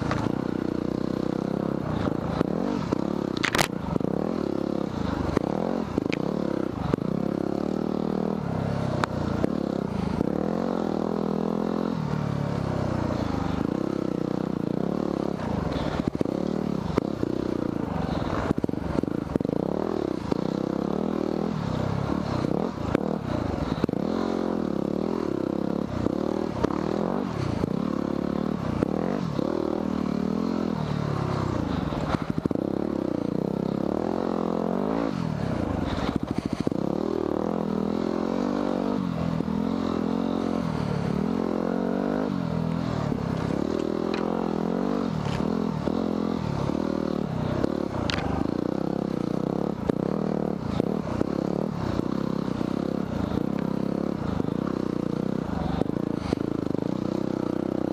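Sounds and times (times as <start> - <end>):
knocks and rattles from bike: 0.0 - 12.2, 12.8 - 57.9
motorcycle engine revving: 0.0 - 57.9.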